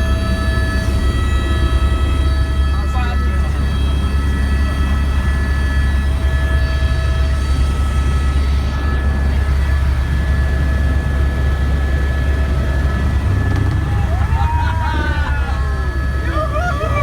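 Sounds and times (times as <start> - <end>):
helicopter rotor drone: 0.0 - 17.0
turbine whine: 0.0 - 17.0.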